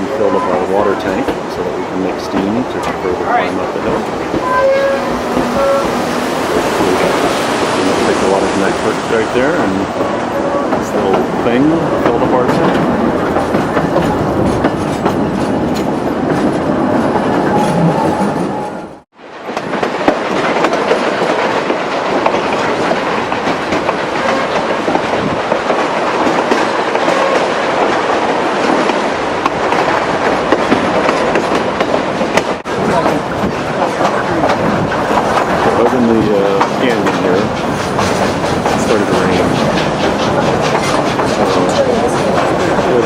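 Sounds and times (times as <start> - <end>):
steam train wheels clattering: 0.0 - 18.8, 19.4 - 43.0.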